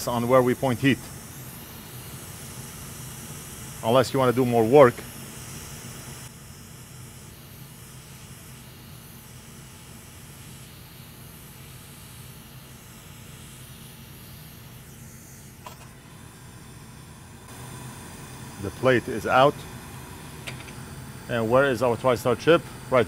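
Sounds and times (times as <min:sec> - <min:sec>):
hot air blower hissing: 0:00.0 - 0:23.0.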